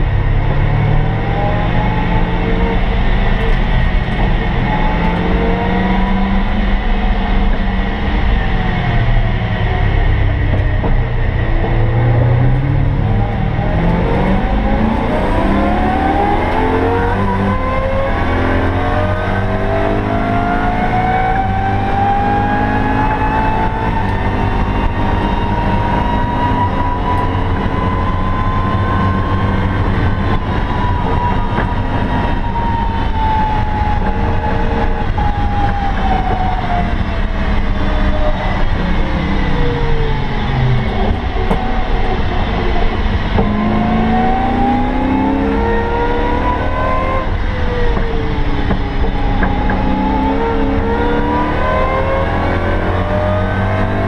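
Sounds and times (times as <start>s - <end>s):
car engine revving high: 0.0s - 54.0s
road and tyre rumble: 0.0s - 54.0s.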